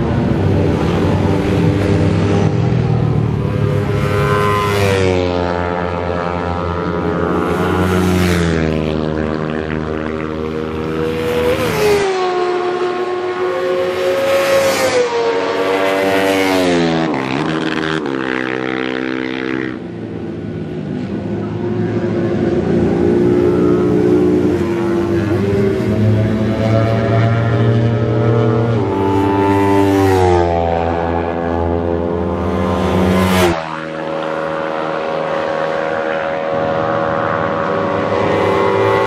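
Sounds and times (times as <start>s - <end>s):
motorcycle engines revving: 0.0s - 39.0s.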